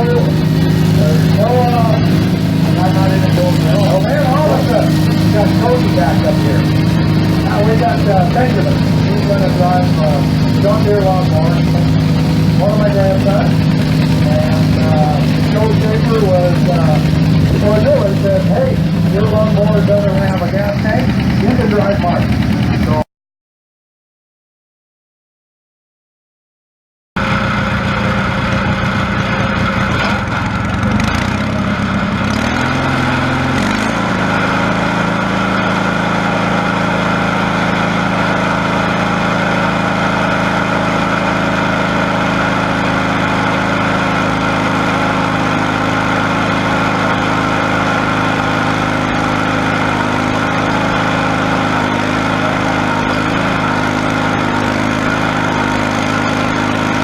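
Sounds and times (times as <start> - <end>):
lawn tractor engine running: 0.0 - 23.0, 27.2 - 57.0.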